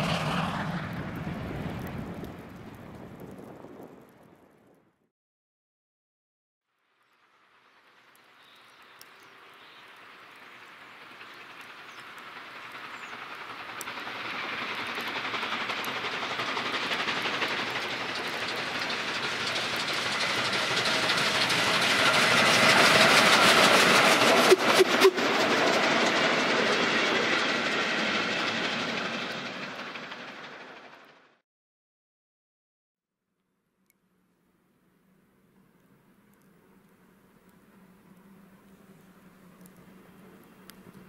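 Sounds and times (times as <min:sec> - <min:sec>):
train passing on rails: 0:00.0 - 0:04.0, 0:07.2 - 0:31.4, 0:35.0 - 0:41.0.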